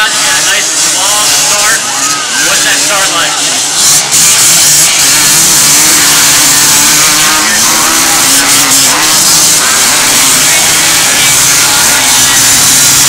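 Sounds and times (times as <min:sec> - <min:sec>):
racing engines revving: 0:00.0 - 0:13.0.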